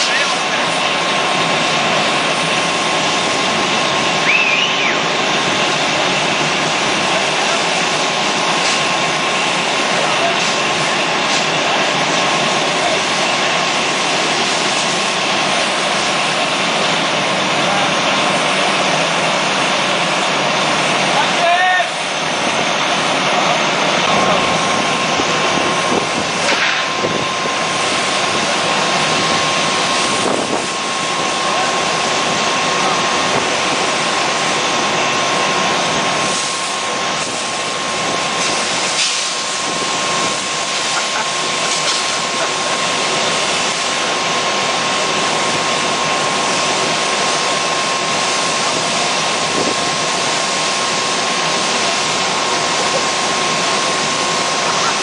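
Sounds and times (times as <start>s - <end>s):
fire engine pumps running: 0.0s - 55.0s
water streams spraying: 0.0s - 55.0s.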